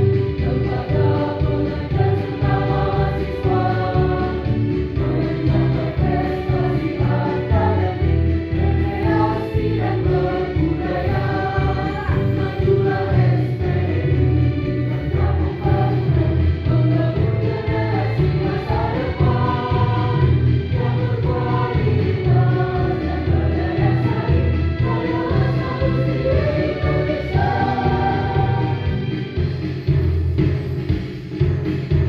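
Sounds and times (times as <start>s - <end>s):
mixed choir singing: 0.0s - 29.2s.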